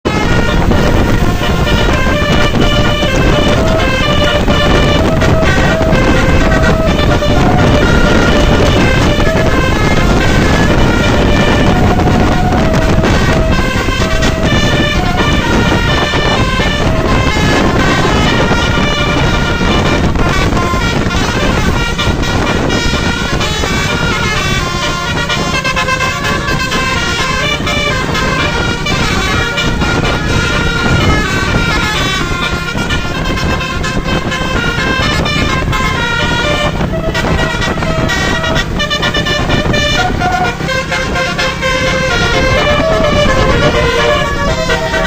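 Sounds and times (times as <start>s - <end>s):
low engine rumble: 0.0s - 45.0s
musical air horn tune: 0.0s - 45.0s.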